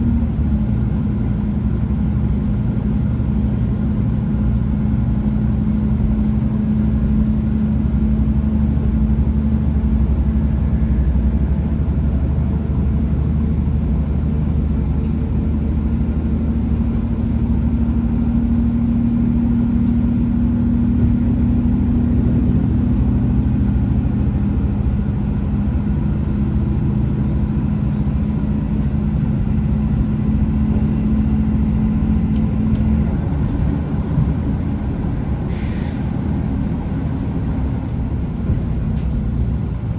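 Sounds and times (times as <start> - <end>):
diesel engine droning: 0.0 - 39.9
wheels rumbling on rail: 0.0 - 39.9.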